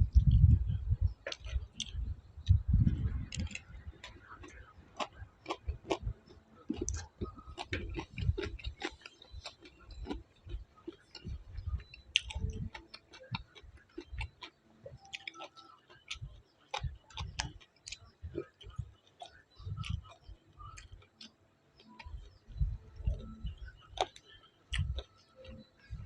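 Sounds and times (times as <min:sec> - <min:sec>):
person chewing with mouth clicks: 0:01.2 - 0:26.0.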